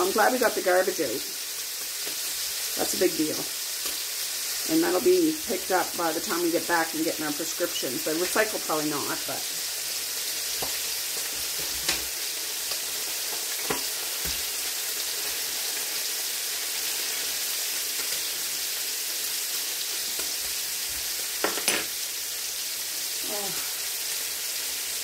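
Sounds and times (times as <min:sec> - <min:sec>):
meat sizzling in pans: 0:00.0 - 0:25.0.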